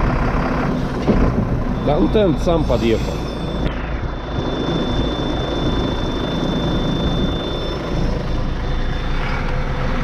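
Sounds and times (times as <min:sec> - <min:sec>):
road noise: 0:00.0 - 0:10.0
truck engine drone: 0:00.0 - 0:10.0
thin high whine: 0:01.6 - 0:10.0.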